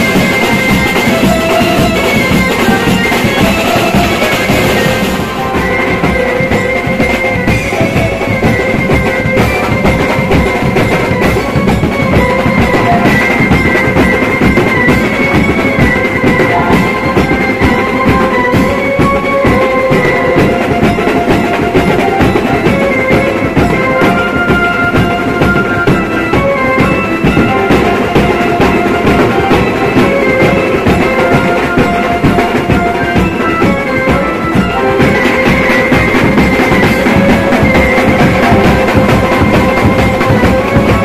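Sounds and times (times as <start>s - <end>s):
band music with driving drum beat: 0.0s - 41.0s.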